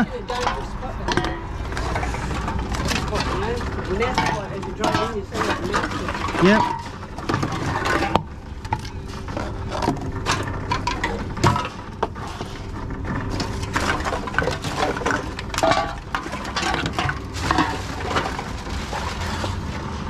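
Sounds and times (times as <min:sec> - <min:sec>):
cans and bottles clinking and crinkling: 0:00.0 - 0:20.0
steady low hum: 0:00.0 - 0:20.0.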